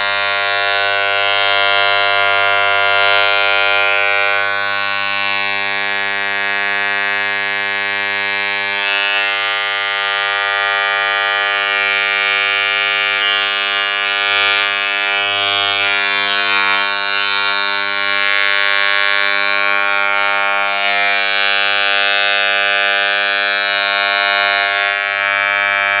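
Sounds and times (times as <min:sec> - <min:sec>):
electric shaver buzzing: 0:00.0 - 0:26.0.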